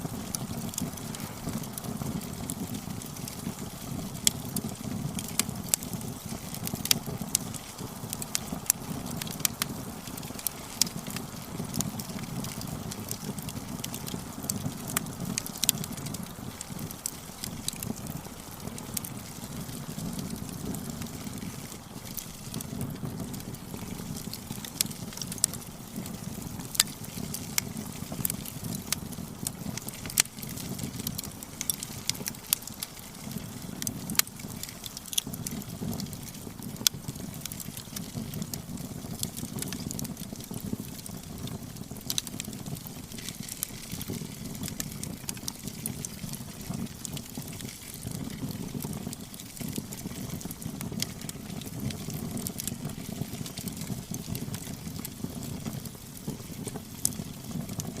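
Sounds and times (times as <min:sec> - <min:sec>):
firewood crackling and popping: 0:00.0 - 0:58.0
low rumble of flame: 0:00.0 - 0:58.0.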